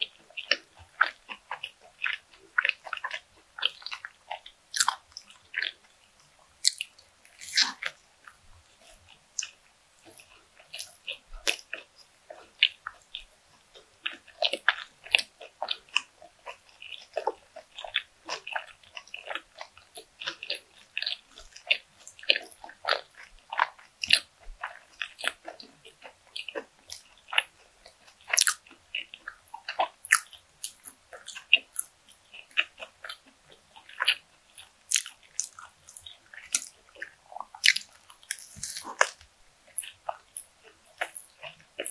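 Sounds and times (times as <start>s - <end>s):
crisp food chewing: 0.0s - 41.9s.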